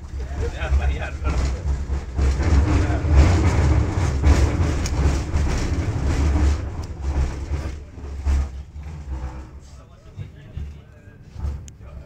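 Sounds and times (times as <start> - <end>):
tram rumble on rails: 0.0 - 12.0.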